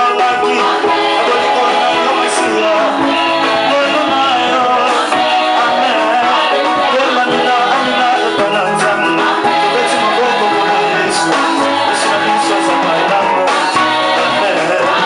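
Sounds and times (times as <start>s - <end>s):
group singing gospel: 0.0s - 15.0s
live band playing: 0.0s - 15.0s.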